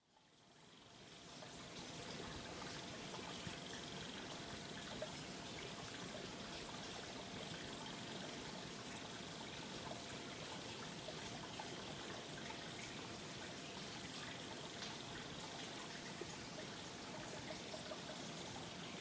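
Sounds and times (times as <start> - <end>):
faint water trickle: 0.0 - 19.0
dripping ticks: 0.1 - 19.0.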